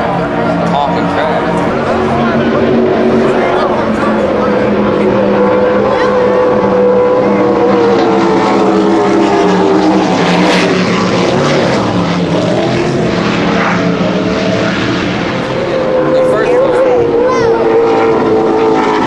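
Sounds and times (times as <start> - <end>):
racing engines droning: 0.0 - 19.0.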